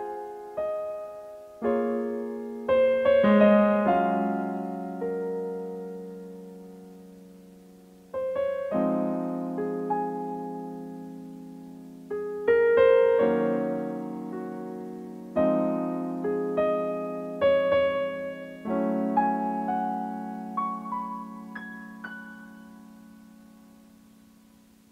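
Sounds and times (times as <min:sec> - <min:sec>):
gentle piano chords: 0:00.0 - 0:24.9.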